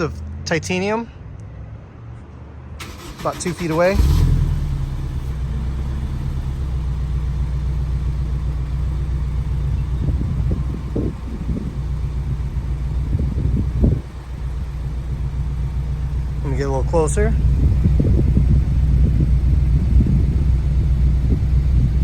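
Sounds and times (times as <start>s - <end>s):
car engine idling: 2.8s - 22.0s.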